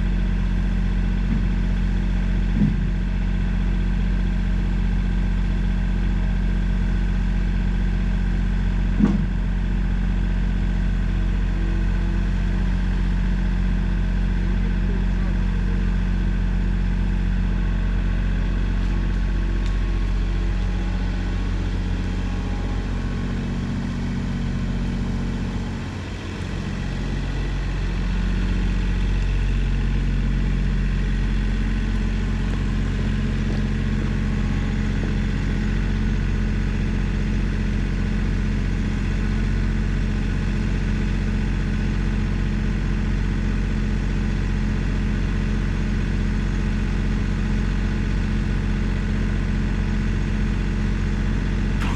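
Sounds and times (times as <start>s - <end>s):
engine running: 0.0s - 51.9s.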